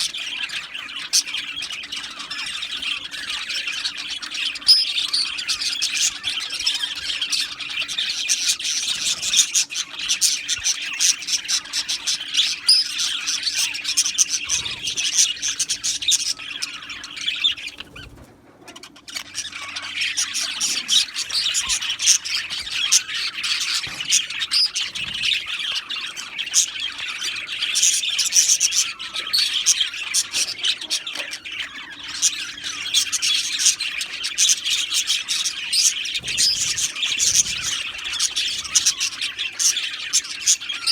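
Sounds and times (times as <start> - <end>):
budgerigars chattering and squawking: 0.0 - 40.9.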